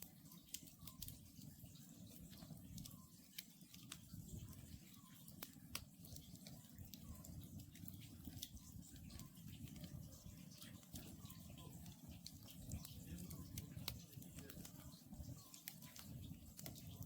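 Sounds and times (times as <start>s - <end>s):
campfire crackling and popping: 0.1s - 17.0s.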